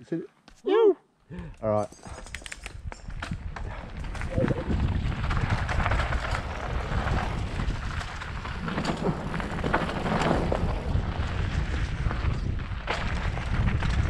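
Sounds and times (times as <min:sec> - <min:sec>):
tyres crunching on loose dirt: 0:02.1 - 0:14.0
wind buffeting microphone: 0:02.1 - 0:14.0.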